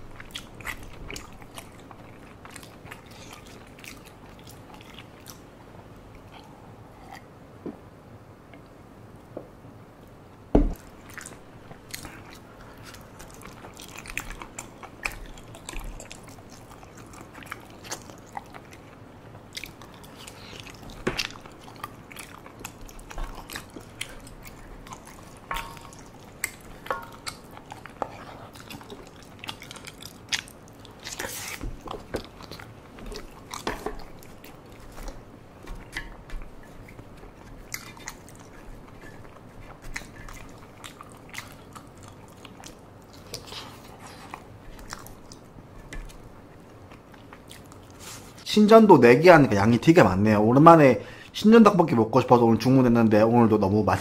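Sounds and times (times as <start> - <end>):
close chewing and eating: 0.0 - 7.6, 8.4 - 54.0.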